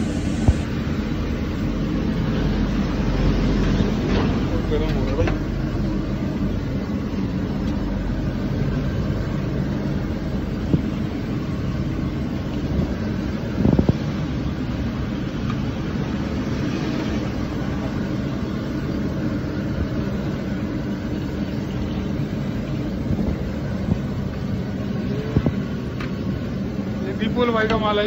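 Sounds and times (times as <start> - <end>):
machine drone: 0.0 - 27.1.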